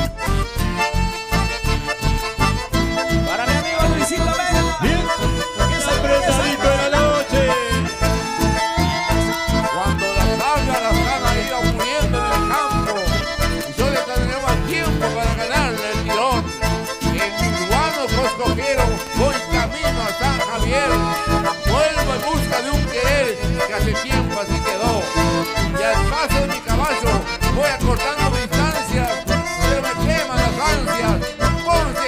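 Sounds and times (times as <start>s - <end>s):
live band with accordions: 0.0s - 32.0s.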